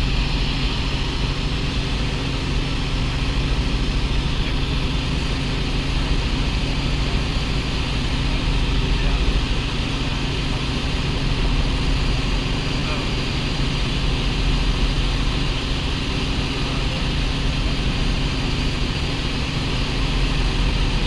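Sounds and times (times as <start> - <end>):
helicopter engine and rotor hum: 0.0 - 21.0.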